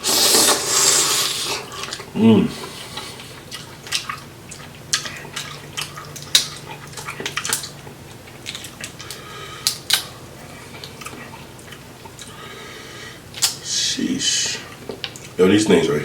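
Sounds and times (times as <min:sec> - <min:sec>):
wet chewing and smacking: 0:01.6 - 0:13.7, 0:14.4 - 0:15.8.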